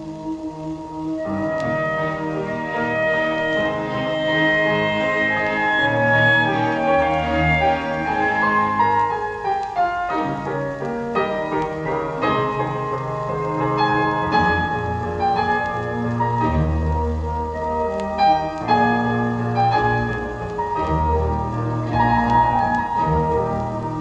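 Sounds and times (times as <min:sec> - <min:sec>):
piano-led instrumental music: 0:00.0 - 0:24.0.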